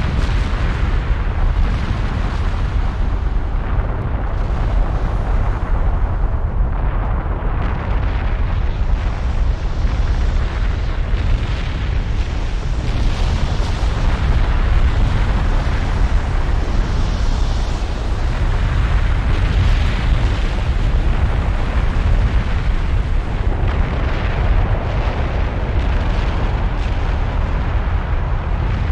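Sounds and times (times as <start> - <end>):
deep rumbling roar with hiss: 0.0 - 28.9.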